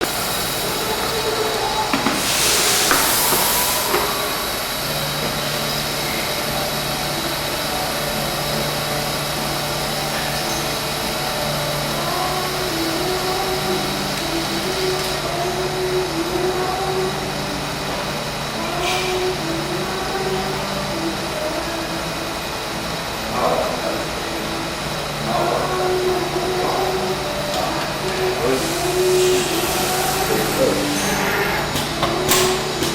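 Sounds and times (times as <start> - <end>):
loud hiss: 0.0 - 32.9
machine hum: 0.0 - 32.9.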